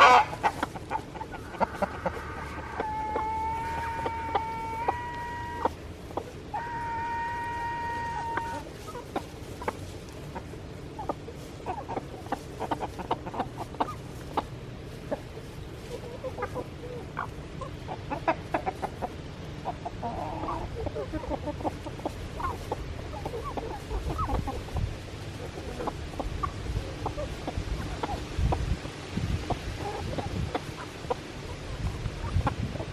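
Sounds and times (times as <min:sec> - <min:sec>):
chickens clucking: 0:00.0 - 0:32.9.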